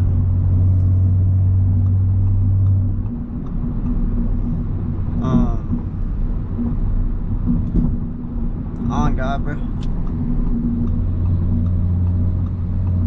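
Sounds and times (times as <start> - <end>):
car engine drone: 0.0 - 13.0
road rumble: 0.0 - 13.0.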